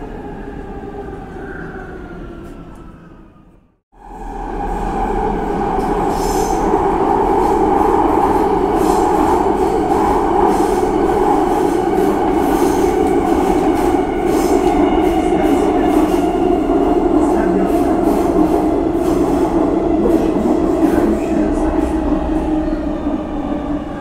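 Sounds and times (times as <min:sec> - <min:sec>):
subway wheels rumbling on track: 0:00.0 - 0:24.0.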